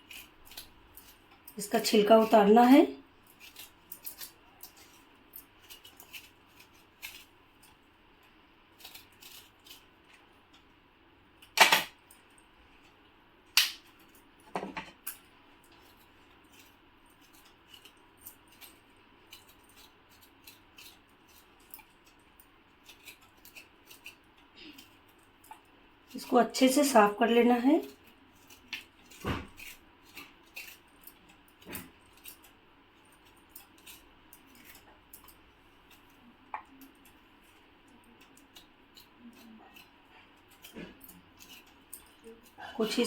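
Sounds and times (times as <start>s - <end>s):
ginger root being peeled: 0.0s - 12.0s, 12.8s - 43.0s.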